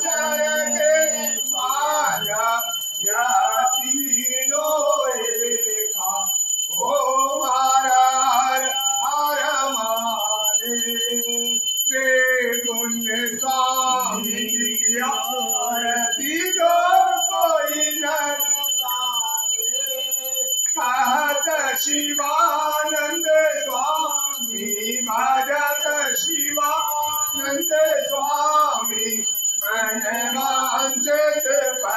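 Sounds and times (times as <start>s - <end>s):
man singing a devotional chant: 0.0s - 31.9s.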